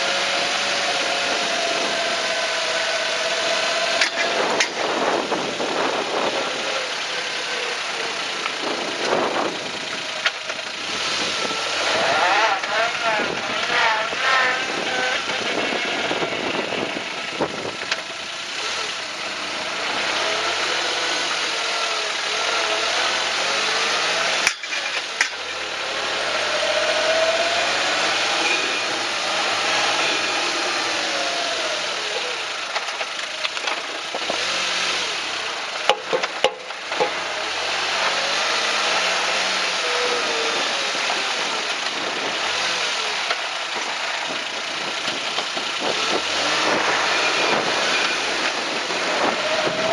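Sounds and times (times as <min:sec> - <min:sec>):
car engine running: 0:00.0 - 0:49.9
suspension clunk: 0:00.4 - 0:21.4, 0:23.8 - 0:25.8, 0:26.8 - 0:40.2, 0:41.0 - 0:49.9.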